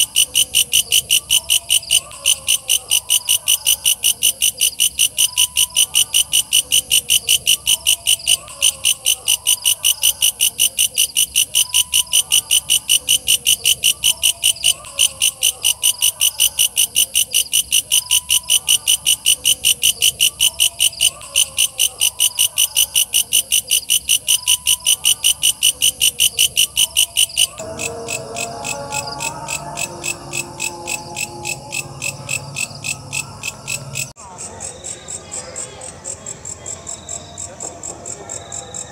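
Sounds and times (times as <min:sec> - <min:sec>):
insect chirping fast: 0:00.0 - 0:34.1.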